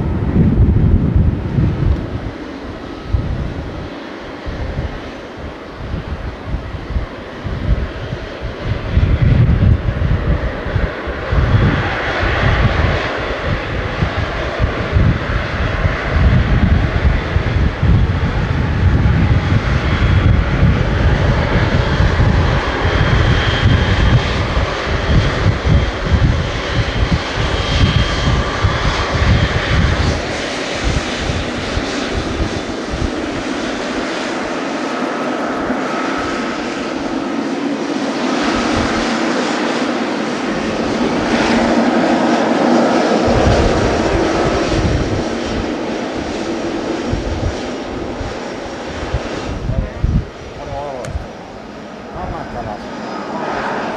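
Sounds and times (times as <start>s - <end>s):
deep rumble: 0.0s - 53.9s
jet engines whining: 0.0s - 53.9s.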